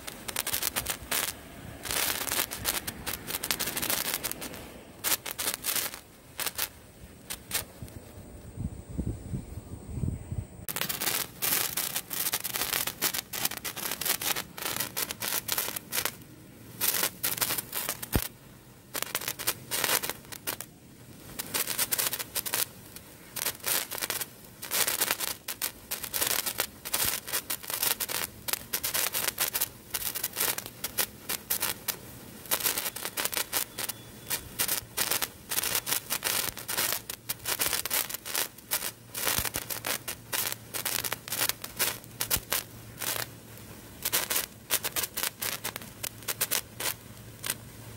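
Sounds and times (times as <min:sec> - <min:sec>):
sparkler crackling and fizzing: 0:00.0 - 0:08.2, 0:10.7 - 0:47.9.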